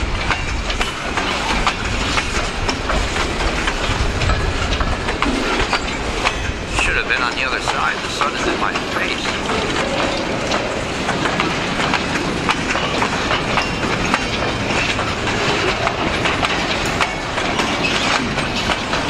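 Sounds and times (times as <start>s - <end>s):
rumble of train wheels on rail: 0.0s - 19.0s
wheels clacking on rail joints: 0.0s - 19.0s.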